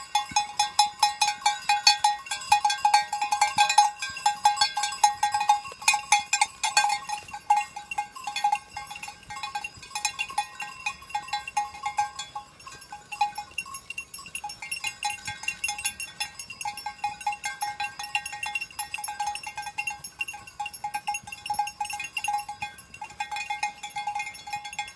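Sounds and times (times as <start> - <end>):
goat bells clanking: 0.0 - 24.9.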